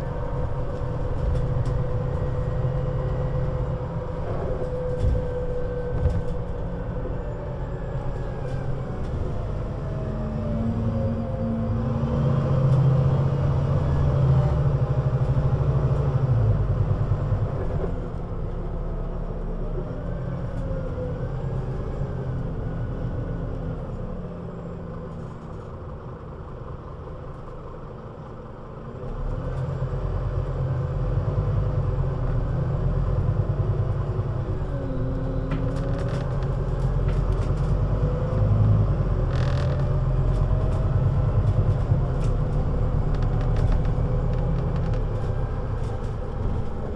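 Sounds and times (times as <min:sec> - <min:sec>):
bus engine running: 0:00.0 - 0:46.9.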